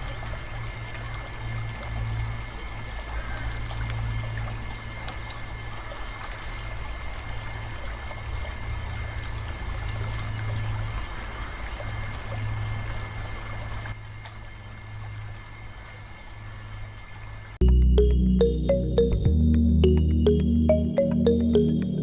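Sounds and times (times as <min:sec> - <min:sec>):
water pouring and trickling: 0:00.0 - 0:19.1
low motor hum: 0:00.0 - 0:22.0.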